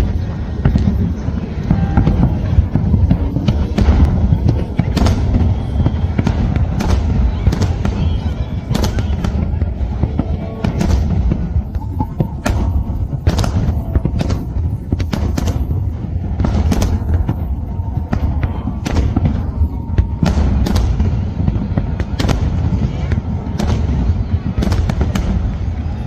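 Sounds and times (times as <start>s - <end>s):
deep rumble of booms: 0.0s - 26.0s
fireworks bangs and crackles: 0.0s - 26.0s.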